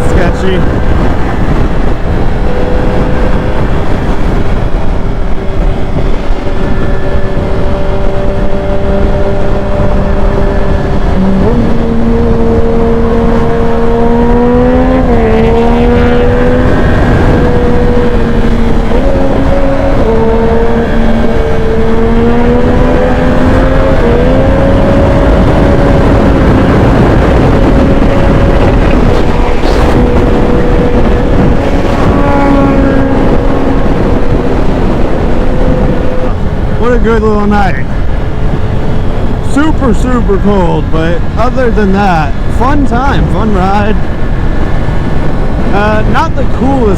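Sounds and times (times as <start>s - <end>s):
motorcycle engine running: 0.0s - 46.9s
wind rush on microphone: 0.0s - 46.9s.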